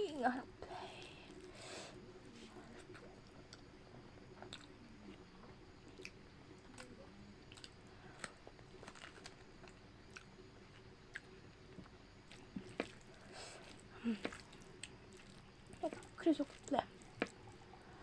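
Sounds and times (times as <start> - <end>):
chewing and crunching food: 0.2 - 18.0.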